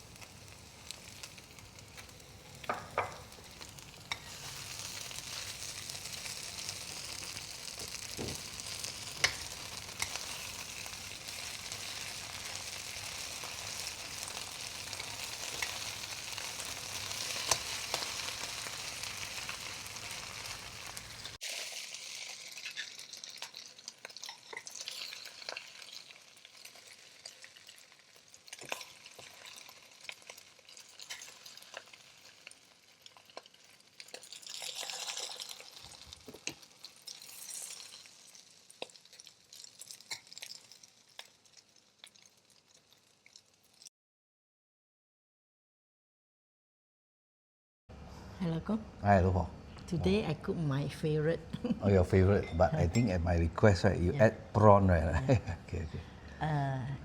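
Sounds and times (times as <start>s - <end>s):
food sizzling in a pan: 0.0s - 43.9s, 50.1s - 56.8s.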